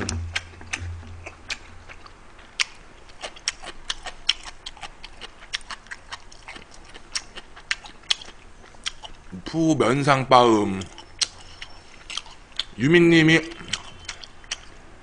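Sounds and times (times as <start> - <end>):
man chewing noodles: 0.0 - 9.4, 10.8 - 12.8, 13.5 - 15.0
low steady hum: 0.0 - 15.0.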